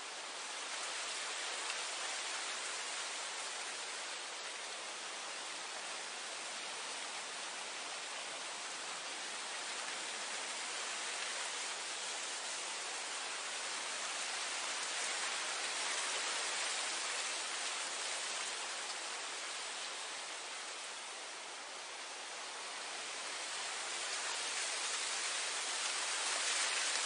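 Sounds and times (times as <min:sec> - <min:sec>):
wind blowing through grass: 0:00.0 - 0:27.0.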